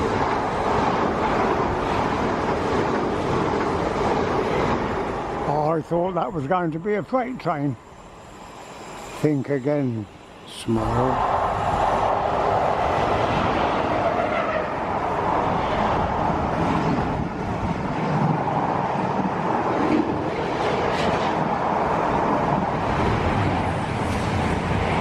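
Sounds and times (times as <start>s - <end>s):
train passing rumble: 0.0s - 25.0s.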